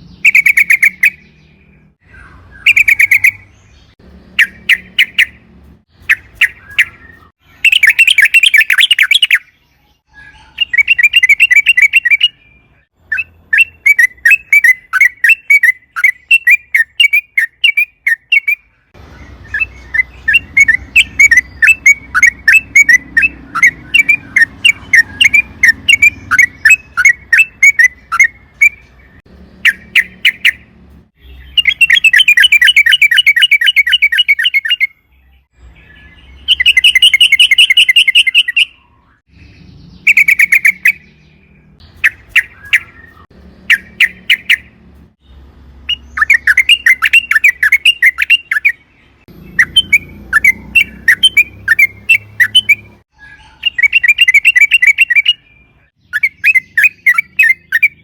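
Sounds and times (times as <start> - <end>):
bird chattering and chirping: 0.0 - 58.0.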